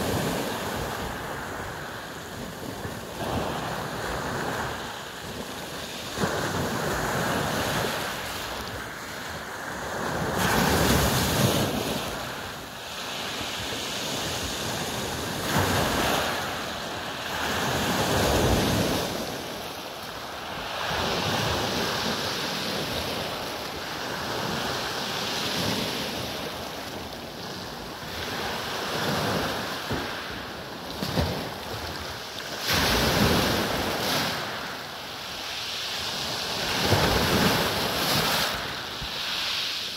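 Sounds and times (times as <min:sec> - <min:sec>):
waves breaking on pebble beach: 0:00.0 - 0:39.9.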